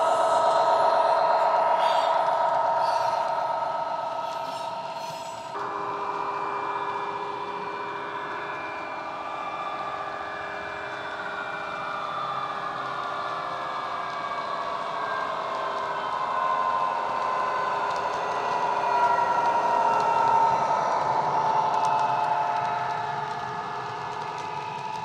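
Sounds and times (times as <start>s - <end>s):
locomotive engine drone from speaker: 0.0s - 24.2s
engine whine shifting pitch: 0.0s - 24.6s.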